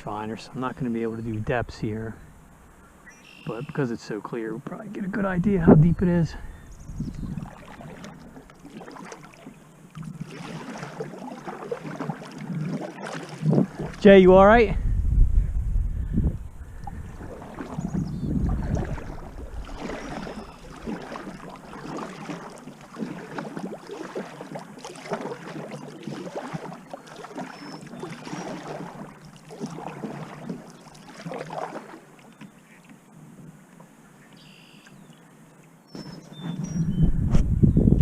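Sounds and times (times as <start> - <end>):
water splashing around kayak: 0.0 - 38.0.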